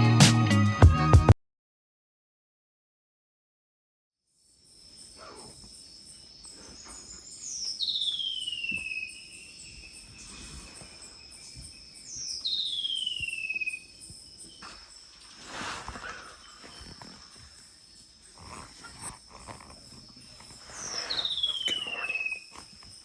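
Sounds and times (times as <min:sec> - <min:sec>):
insects buzzing high-pitched: 0:04.4 - 0:23.0
pulsed insect chirping: 0:04.4 - 0:23.0.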